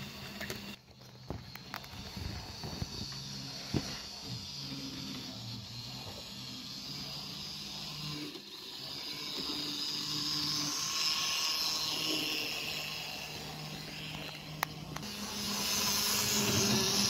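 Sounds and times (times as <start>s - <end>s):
model train motor whining: 0.0s - 17.0s
wheels rolling on metal track: 0.0s - 17.0s.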